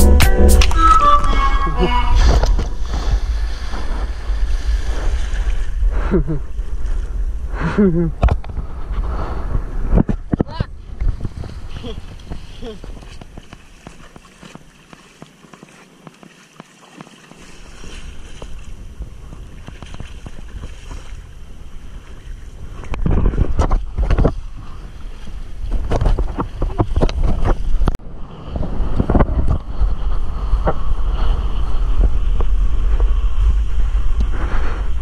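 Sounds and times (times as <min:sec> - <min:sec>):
wind buffeting microphone: 0:00.7 - 0:14.3, 0:17.4 - 0:35.0.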